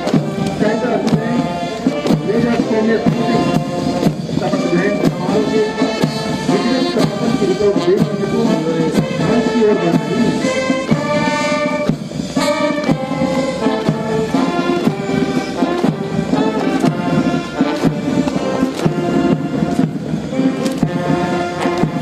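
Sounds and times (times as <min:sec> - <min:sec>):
brass band music: 0:00.0 - 0:22.0
steady drum beat: 0:00.0 - 0:22.0.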